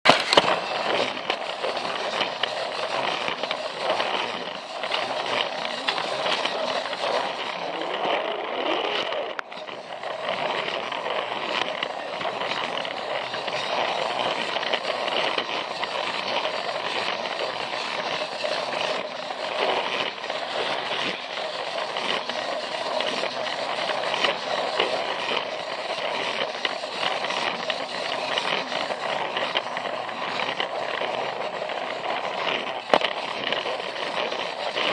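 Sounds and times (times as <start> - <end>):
toy train rattling on plastic track: 0.1 - 34.9.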